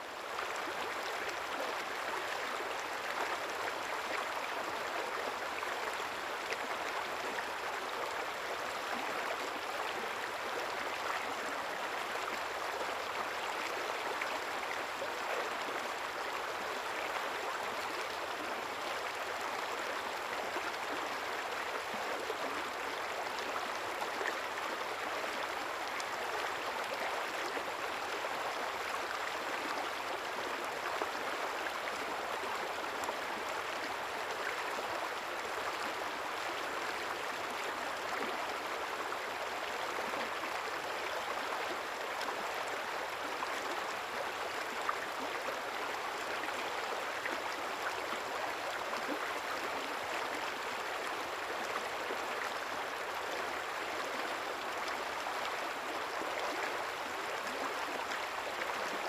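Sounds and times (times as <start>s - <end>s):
river babbling over stones: 0.0s - 59.0s.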